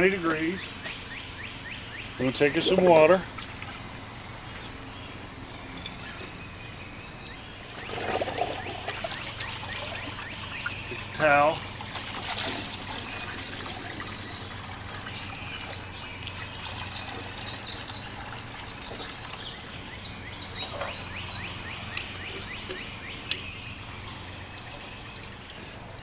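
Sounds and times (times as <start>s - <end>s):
water trickling into bucket: 2.4s - 6.1s, 7.2s - 26.0s.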